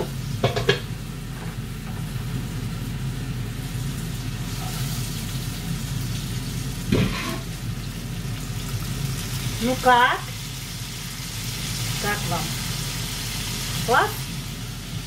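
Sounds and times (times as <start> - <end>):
constant low hum: 0.0 - 15.0
food sizzling in frying pan: 0.0 - 15.0.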